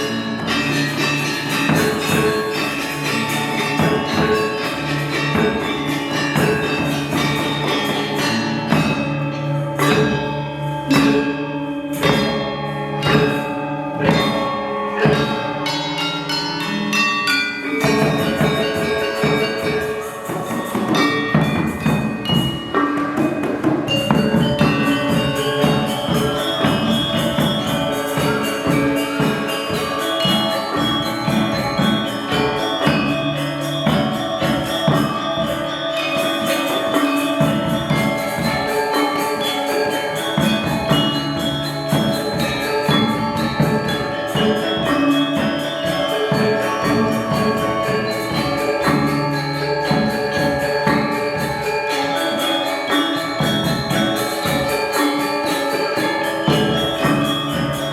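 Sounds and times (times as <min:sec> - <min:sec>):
gamelan gong ensemble playing: 0:00.0 - 0:57.9.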